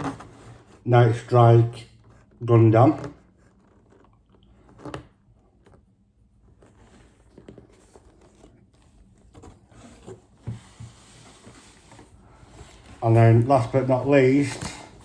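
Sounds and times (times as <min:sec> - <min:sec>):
boxes and packaging rustling: 0:00.0 - 0:15.0.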